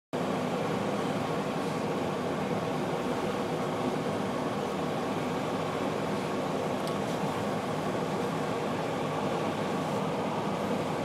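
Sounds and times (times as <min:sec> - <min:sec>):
vehicle hum and hiss: 0:00.2 - 0:11.0.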